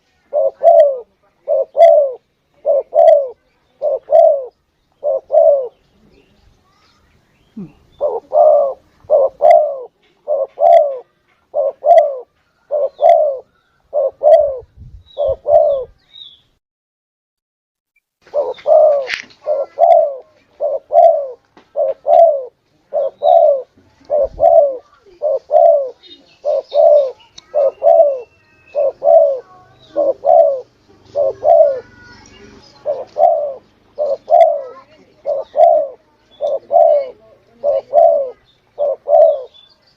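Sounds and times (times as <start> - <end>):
dove cooing: 0.0 - 6.1, 7.6 - 16.0, 18.2 - 39.6
faint high bird chirps: 2.9 - 16.6, 18.2 - 39.9.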